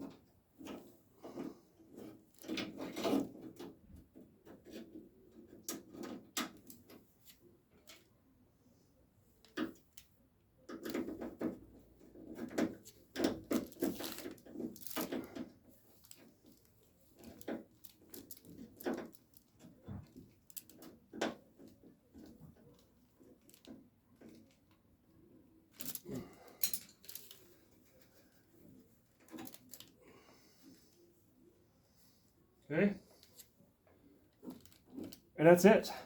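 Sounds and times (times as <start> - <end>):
small metal clicks and rattles: 0.0 - 8.1, 10.7 - 24.9, 25.7 - 30.0, 33.2 - 35.3.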